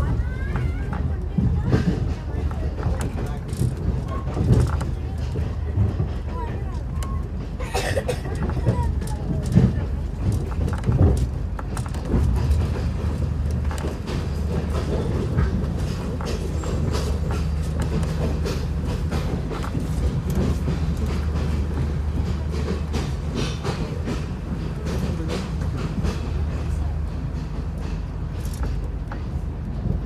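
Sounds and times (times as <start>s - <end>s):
train interior drone: 0.0s - 30.0s
wheels clicking over rail joints: 0.0s - 30.0s.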